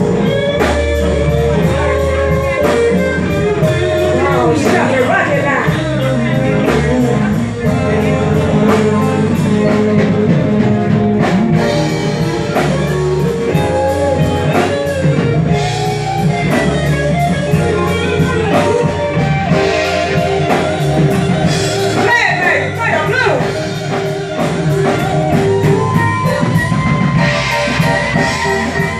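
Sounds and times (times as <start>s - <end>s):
bass notes: 0.0s - 28.9s
drum kit beat: 0.0s - 28.9s
guitar: 0.0s - 28.9s.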